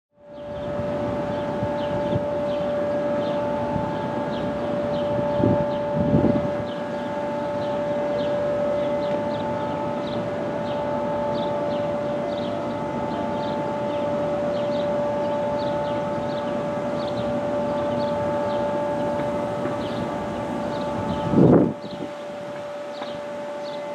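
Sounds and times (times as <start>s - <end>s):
distant two-note warning siren: 0.2s - 23.9s.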